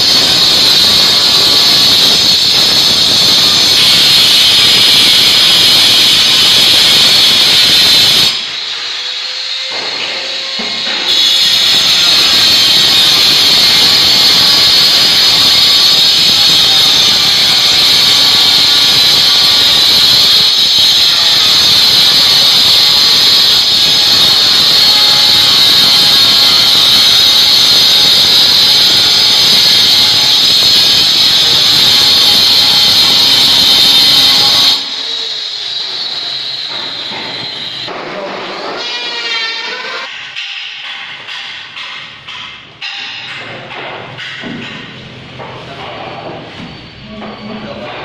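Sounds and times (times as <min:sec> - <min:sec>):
angle grinder whining: 0:00.0 - 0:40.1.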